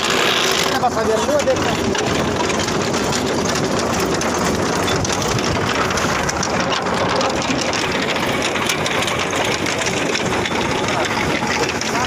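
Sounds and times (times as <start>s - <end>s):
fast clatter of shaking grid: 0.0s - 12.0s
tractor engine running: 0.0s - 12.0s.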